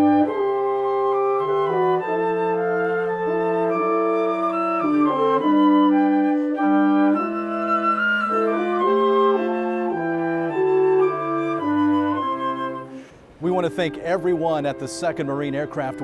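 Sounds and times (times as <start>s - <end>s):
wind band playing chords: 0.0s - 16.0s.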